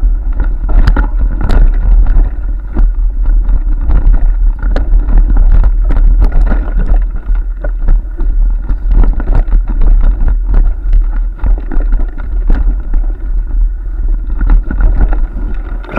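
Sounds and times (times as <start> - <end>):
bike rattling on bumpy trail: 0.0 - 15.9
wind rumble on microphone: 0.0 - 15.9.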